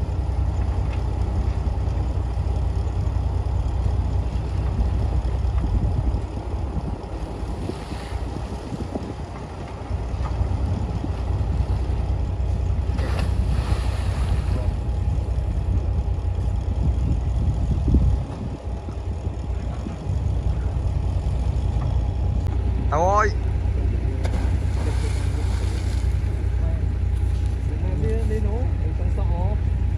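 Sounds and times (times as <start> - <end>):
heavy machinery diesel engine rumbling: 0.0 - 29.9.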